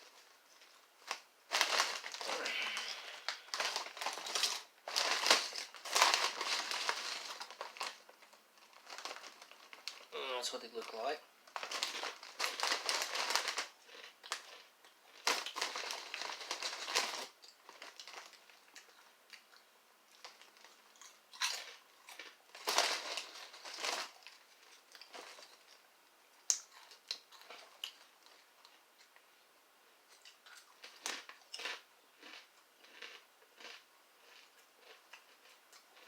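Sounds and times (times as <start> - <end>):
snack bag crinkling: 0.0 - 25.8, 26.4 - 28.8, 30.2 - 36.0.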